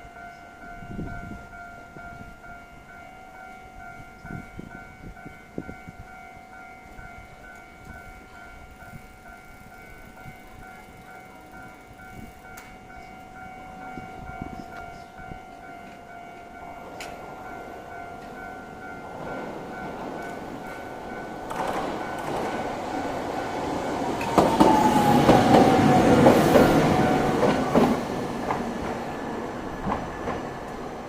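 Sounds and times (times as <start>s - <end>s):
tram running noise: 0.0s - 31.0s.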